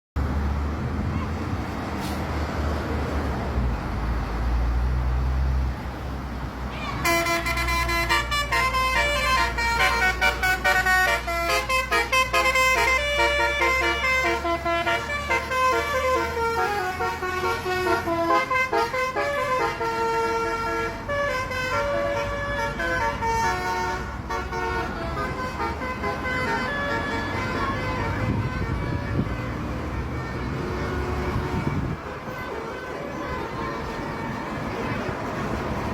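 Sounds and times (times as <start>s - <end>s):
bus engine running low: 0.2s - 35.9s
multi-tone bus horn melody: 7.0s - 35.9s.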